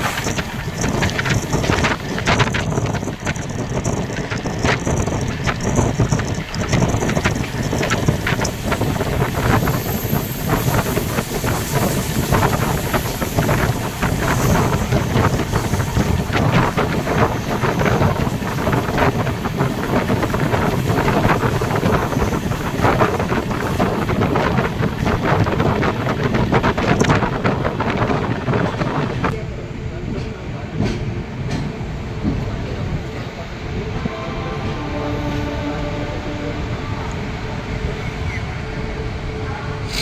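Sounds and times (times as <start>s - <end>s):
train running rumble: 0.0s - 40.0s
wind on microphone: 0.0s - 40.0s.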